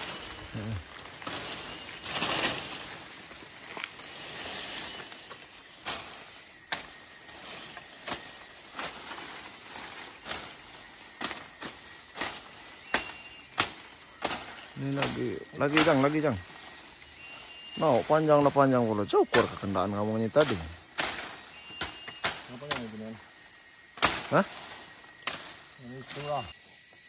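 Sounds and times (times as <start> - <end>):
blade chopping plant stalks: 0.0 - 18.6, 20.3 - 23.1, 23.9 - 26.5
plants rustling: 0.0 - 26.6.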